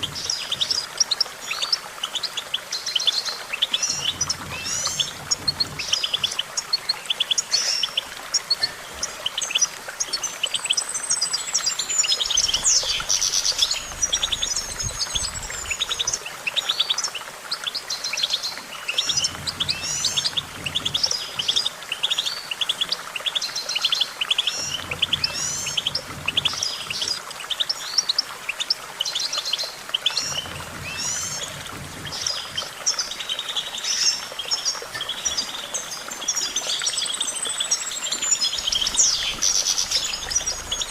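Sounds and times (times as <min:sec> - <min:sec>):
finch twittering song: 0:00.0 - 0:40.9.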